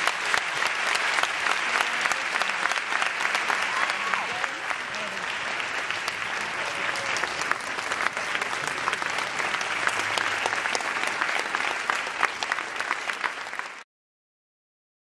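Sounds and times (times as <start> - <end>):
large audience applauding: 0.0 - 13.9.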